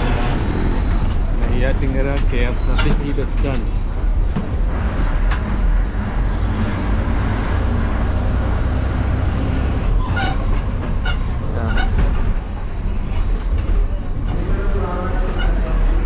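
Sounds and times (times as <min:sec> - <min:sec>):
bus engine rumble: 0:00.0 - 0:16.0
road noise: 0:00.0 - 0:16.0.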